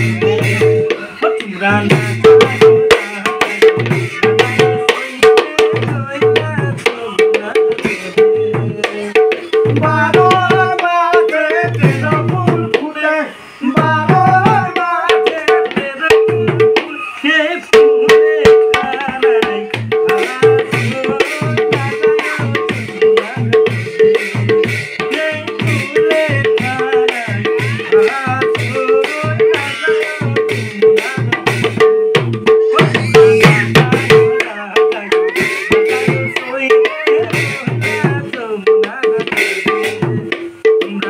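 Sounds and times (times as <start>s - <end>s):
hand drum rhythm: 0.0s - 41.0s
man singing a chant: 0.0s - 41.0s.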